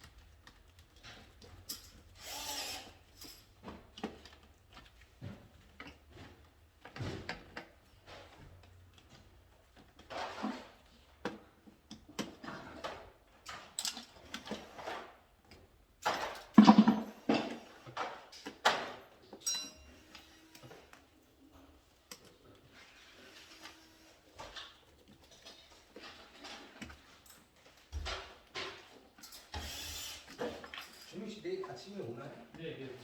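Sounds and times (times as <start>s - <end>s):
rustling and clicking of tools: 0.0s - 33.0s.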